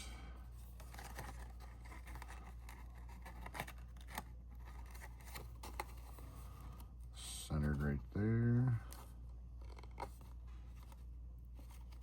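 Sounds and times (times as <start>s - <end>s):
steady low hum: 0.0s - 12.0s
faint paper rustling: 0.4s - 12.0s.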